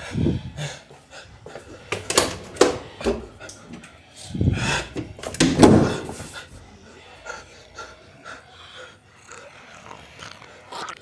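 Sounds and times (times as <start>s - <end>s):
breathy sounds: 0.0s - 11.0s.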